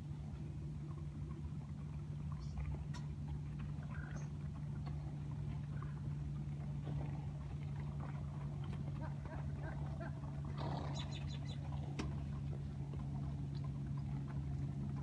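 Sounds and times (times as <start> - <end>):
low mechanical hum with rumble: 0.0 - 15.0.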